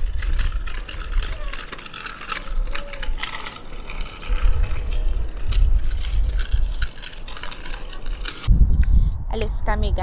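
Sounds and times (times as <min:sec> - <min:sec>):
scooter wheels rattling on asphalt: 0:00.0 - 0:08.5
wind rumbling on microphone: 0:00.0 - 0:10.0.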